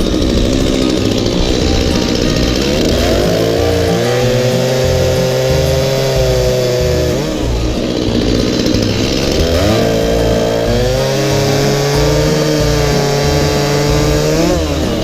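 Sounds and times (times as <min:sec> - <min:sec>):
chainsaw running at high revs: 0:00.0 - 0:15.0.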